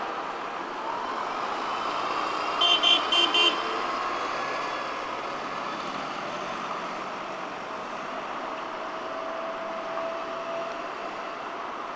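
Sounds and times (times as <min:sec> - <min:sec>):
road traffic: 0:00.0 - 0:11.9.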